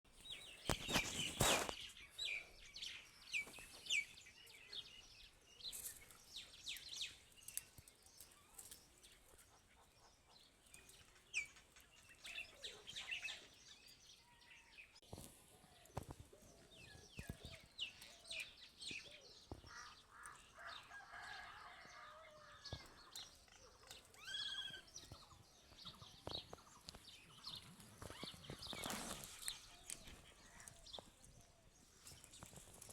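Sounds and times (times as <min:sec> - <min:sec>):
birds chirping: 0:00.1 - 0:32.9.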